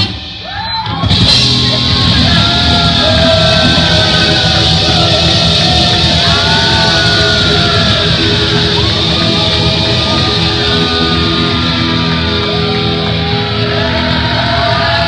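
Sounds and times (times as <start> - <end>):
bass guitar: 0.0 - 15.0
drums: 0.0 - 15.0
electric guitar: 0.9 - 15.0.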